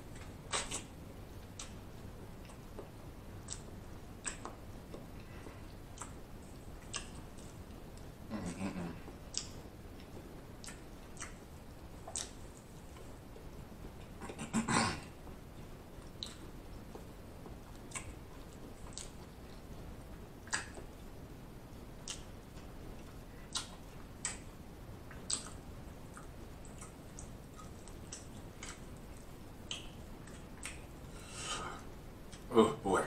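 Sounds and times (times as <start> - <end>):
person chewing food: 0.1 - 14.4, 15.6 - 19.7, 22.0 - 32.5.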